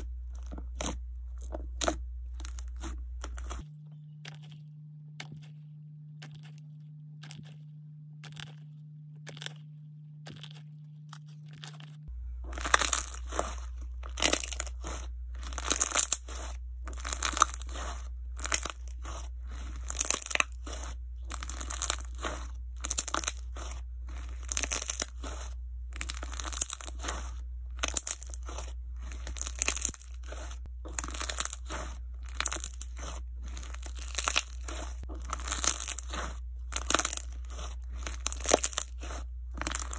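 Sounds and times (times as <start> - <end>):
slime with sponge crunching: 0.0 - 3.7, 11.5 - 39.9
steady low hum: 0.0 - 39.9.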